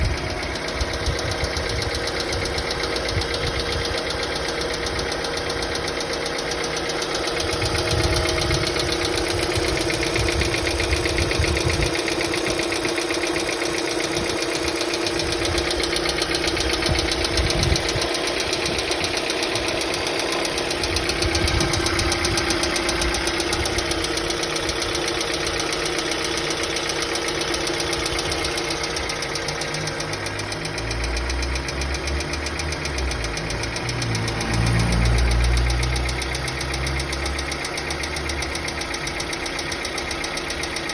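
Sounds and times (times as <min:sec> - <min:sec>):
car engine ticking clatter: 0:00.0 - 0:40.9.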